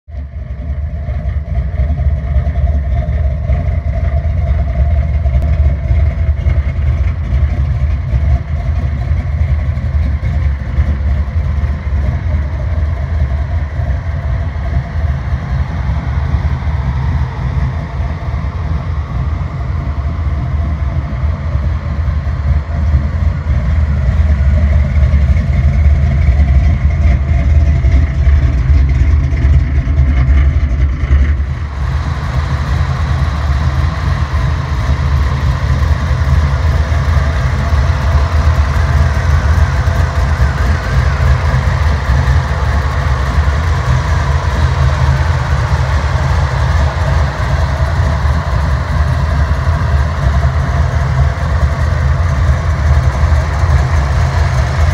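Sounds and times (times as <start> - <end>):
truck engine idling: 0.1 - 54.9.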